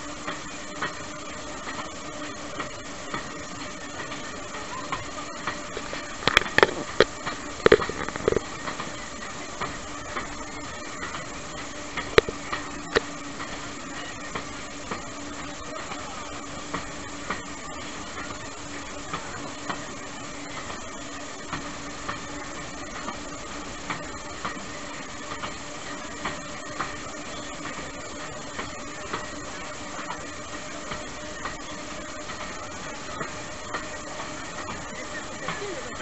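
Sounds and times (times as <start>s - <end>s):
steady hum: 0.0s - 36.0s
train carriage rumble and hiss: 0.0s - 36.0s.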